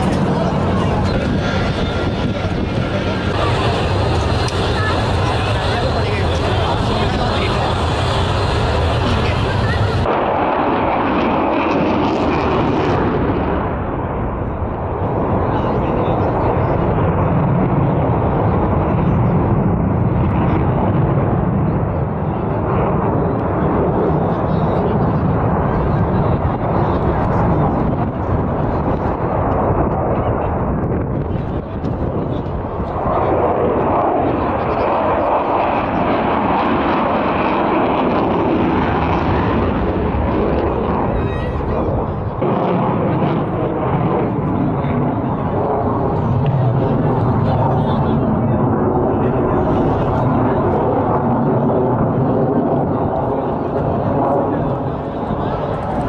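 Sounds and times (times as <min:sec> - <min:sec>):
jet engines rushing overhead: 0:00.0 - 0:56.0.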